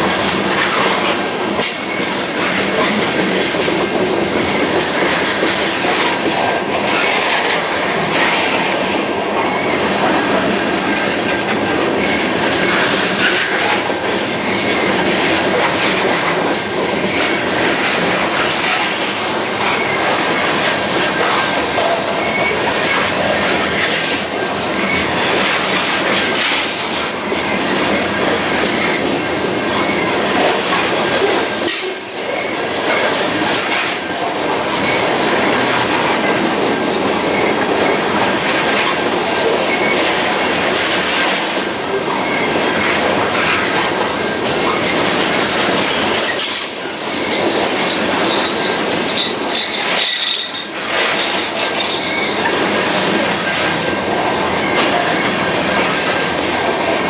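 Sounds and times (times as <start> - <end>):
wheels clicking over rail joints: 0.0 - 53.8
freight train wheels rumbling on rail: 0.0 - 57.0.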